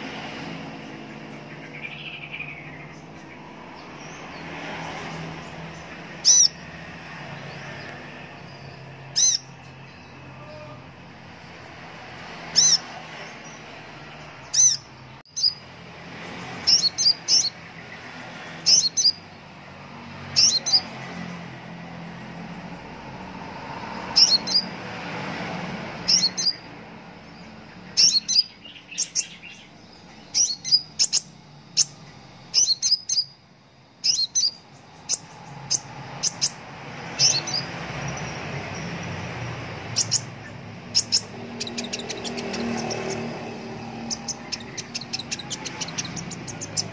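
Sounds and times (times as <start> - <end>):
bird chirping: 0.0 - 46.9.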